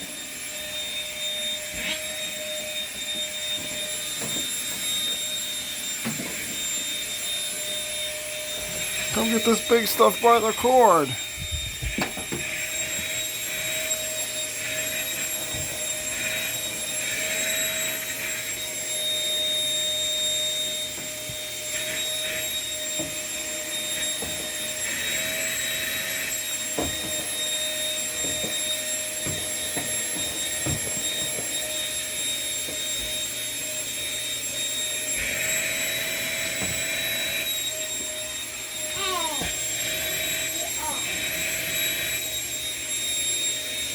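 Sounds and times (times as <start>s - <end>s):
vacuum cleaner motor whine: 0.0s - 43.9s.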